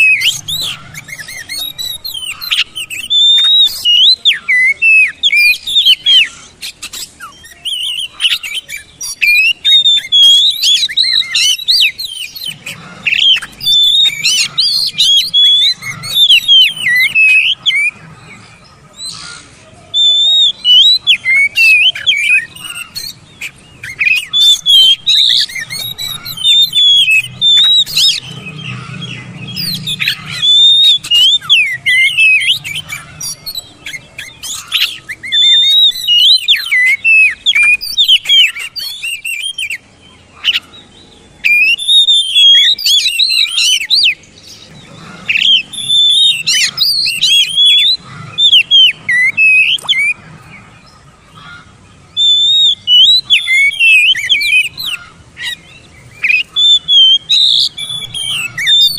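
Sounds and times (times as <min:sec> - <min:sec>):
bird singing: 0:00.0 - 0:58.9.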